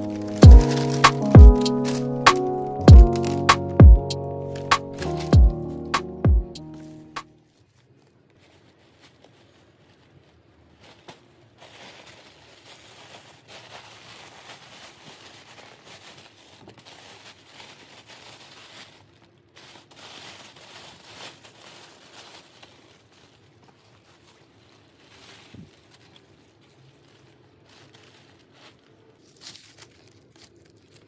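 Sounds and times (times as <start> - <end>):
tissue paper rustling: 0.0 - 31.0.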